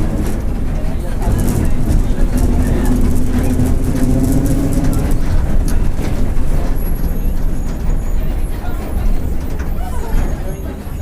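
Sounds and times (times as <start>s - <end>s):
bus engine rumbling drone: 0.0s - 11.0s.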